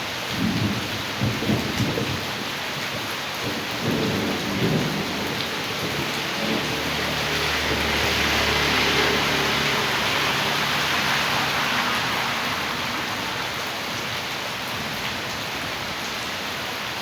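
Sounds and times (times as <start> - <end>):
heavy rain: 0.0 - 17.0
rainwater runoff rushing: 0.0 - 17.0.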